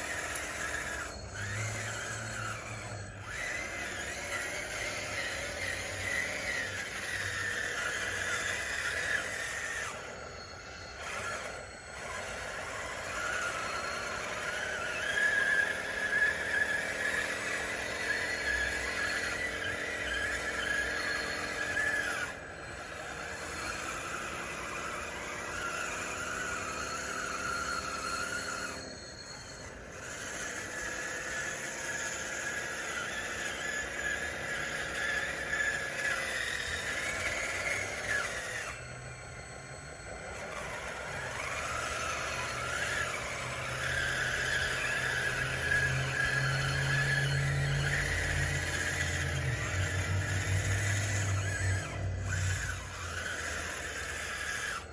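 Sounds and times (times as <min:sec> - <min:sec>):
model bulldozer hydraulic whine: 0:00.0 - 0:54.9.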